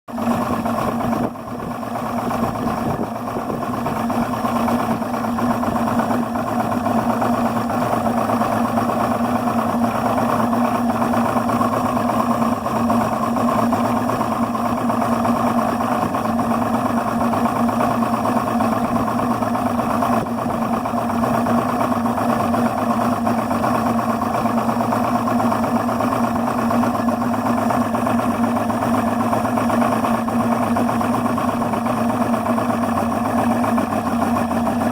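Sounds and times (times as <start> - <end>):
outboard engine idling roughly: 0.1 - 34.9.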